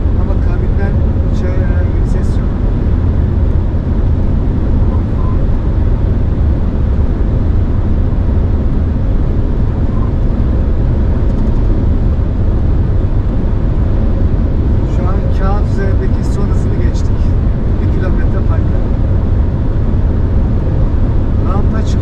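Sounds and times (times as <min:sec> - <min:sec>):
road and tyre rumble: 0:00.0 - 0:22.0
wind noise: 0:00.0 - 0:22.0.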